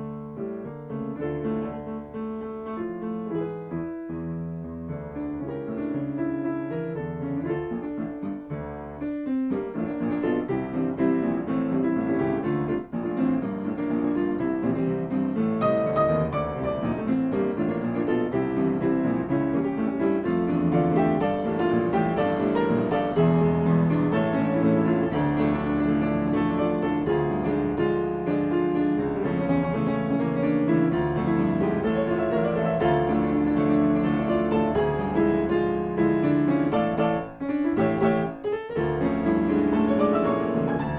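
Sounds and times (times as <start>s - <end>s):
piano piece: 0.0s - 40.9s.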